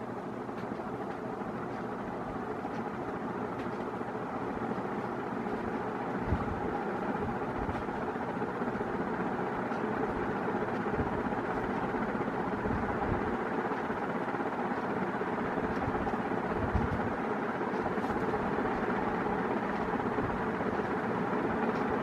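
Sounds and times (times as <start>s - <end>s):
ceiling fan hum and whoosh: 0.0s - 22.0s.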